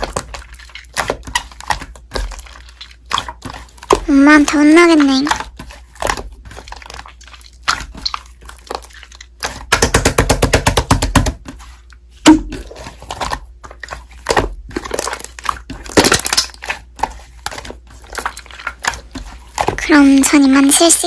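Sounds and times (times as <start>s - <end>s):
slime squishing with sticky pops: 0.0s - 21.0s.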